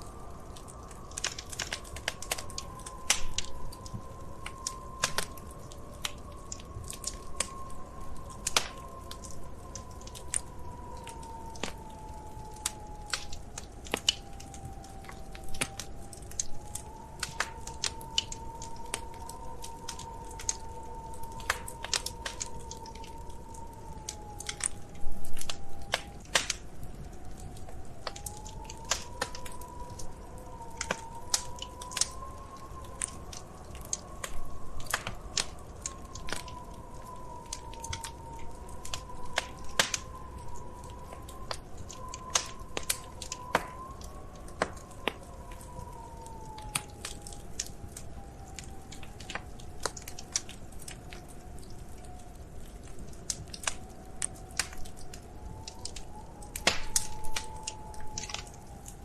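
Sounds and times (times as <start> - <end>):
thin wavering whistling tone: 0.0 - 52.6, 53.7 - 59.0
wood fire crackling: 0.0 - 59.0.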